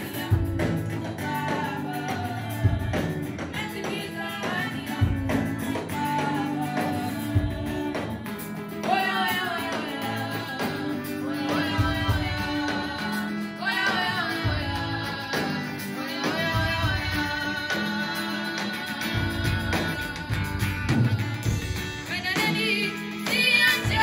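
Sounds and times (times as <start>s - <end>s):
band with bass guitar and beat: 0.0s - 24.0s
women's choir singing: 0.0s - 24.0s.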